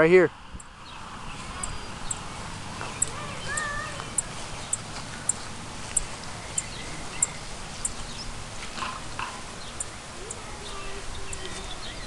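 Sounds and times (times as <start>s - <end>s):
faint bird calls: 0.5s - 12.0s.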